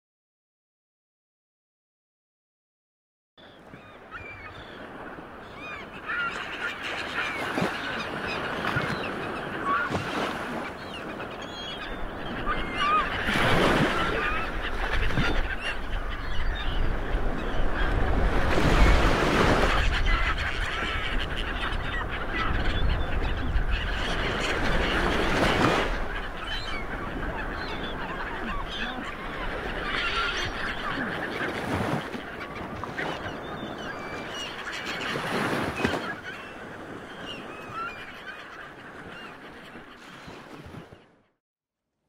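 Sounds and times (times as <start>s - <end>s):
birds calling: 3.4s - 41.0s.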